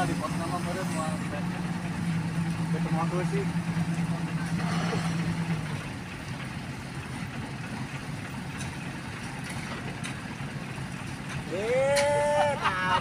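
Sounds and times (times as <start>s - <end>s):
heavy diesel machinery idling: 0.0s - 13.0s.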